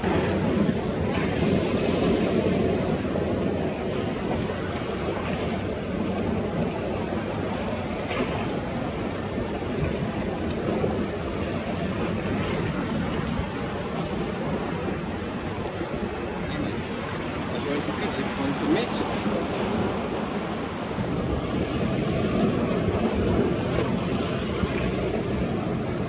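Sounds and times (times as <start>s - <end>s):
sea surf: 0.0s - 26.0s
wind: 0.0s - 26.0s.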